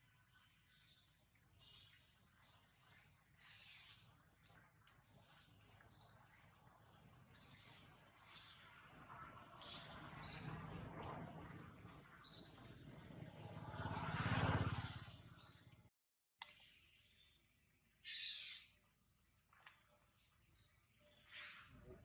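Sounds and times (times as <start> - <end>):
small birds chirping: 0.0 - 15.8, 16.4 - 22.0.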